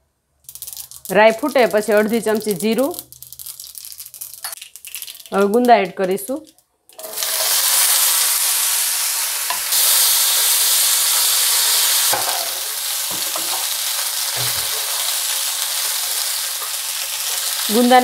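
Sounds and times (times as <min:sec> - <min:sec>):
food sizzling in hot oil: 0:00.4 - 0:05.9, 0:07.0 - 0:18.0.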